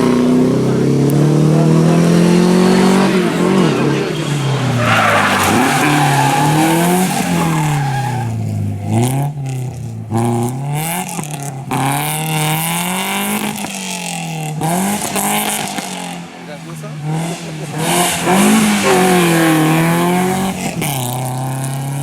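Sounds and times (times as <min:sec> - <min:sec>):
car engine revving: 0:00.0 - 0:22.0
tyres skidding: 0:00.0 - 0:22.0.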